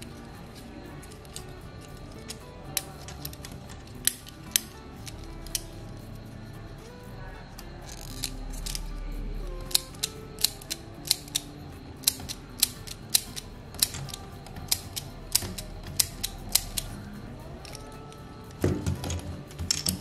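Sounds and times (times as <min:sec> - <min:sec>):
plastic toy parts clicking: 0:00.0 - 0:06.1, 0:06.8 - 0:20.0.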